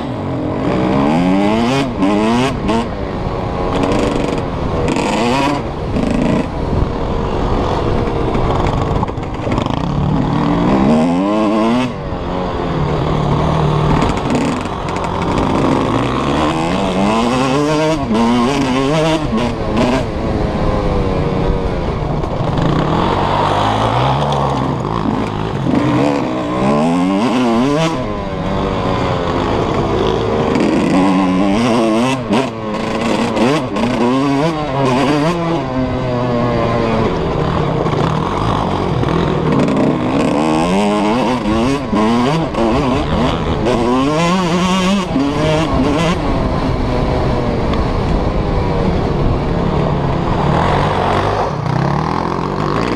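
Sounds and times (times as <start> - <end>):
wind noise on microphone: 0.0 - 23.9, 24.5 - 52.8
motocross bike engine revving: 0.0 - 52.9.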